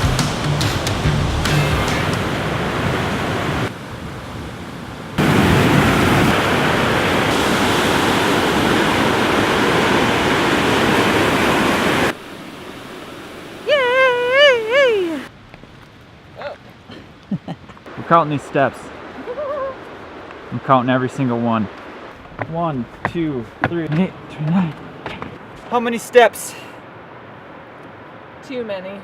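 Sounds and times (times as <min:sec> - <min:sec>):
waterfall rushing: 0:00.0 - 0:28.6.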